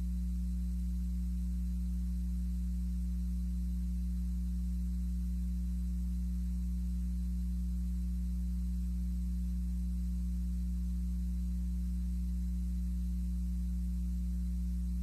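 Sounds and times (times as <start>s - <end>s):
electrical mains hum: 0.0s - 15.0s
faint hiss: 0.0s - 15.0s.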